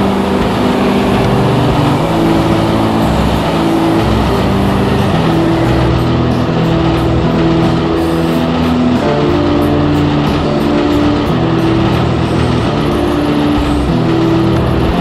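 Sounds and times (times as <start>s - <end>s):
background music with held chords: 0.0s - 15.0s
rough hissy wash: 0.0s - 15.0s.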